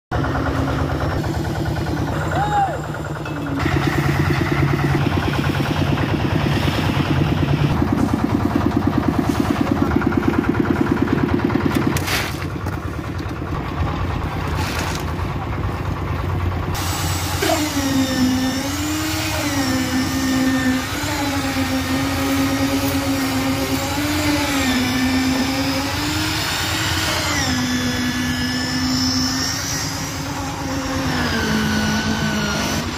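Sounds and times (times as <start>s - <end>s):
concrete mixer engine pulsing: 0.1s - 32.9s
concrete vibrator humming: 0.1s - 32.9s.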